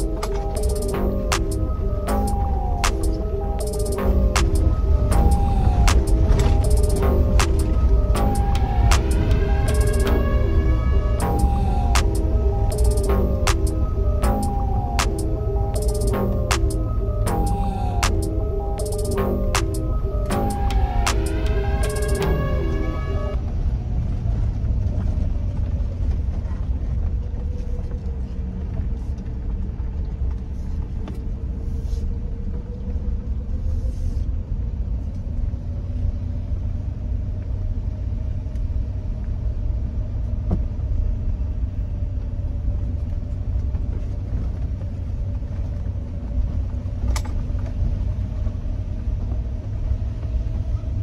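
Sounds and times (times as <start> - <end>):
truck engine and road rumble: 0.0 - 51.0.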